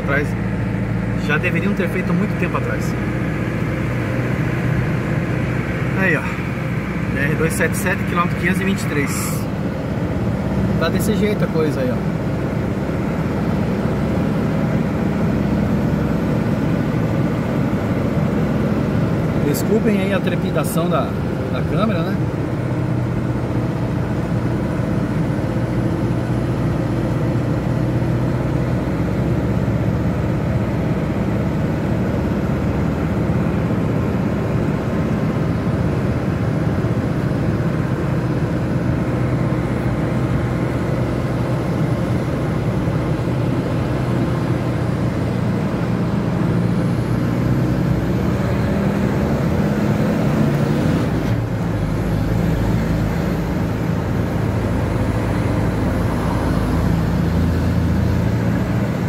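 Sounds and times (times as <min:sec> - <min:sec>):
vehicle engine hum and road noise: 0:00.0 - 0:59.0.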